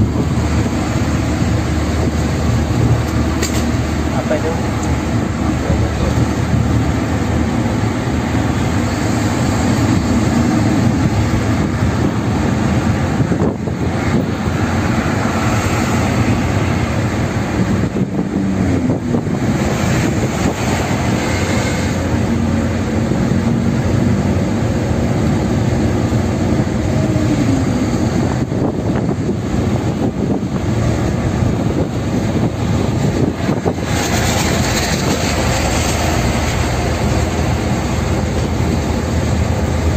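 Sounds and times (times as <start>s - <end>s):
car driving heard from inside: 0.0s - 39.9s.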